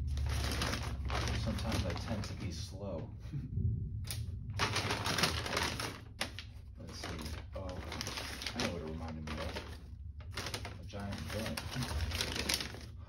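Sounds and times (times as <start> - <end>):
packing paper crinkling: 0.0 - 2.6, 4.6 - 13.0.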